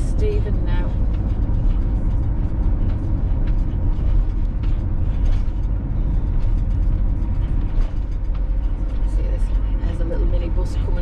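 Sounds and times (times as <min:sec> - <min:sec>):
engine and road noise rumble: 0:00.0 - 0:11.0
light rattles and clicks: 0:00.0 - 0:11.0.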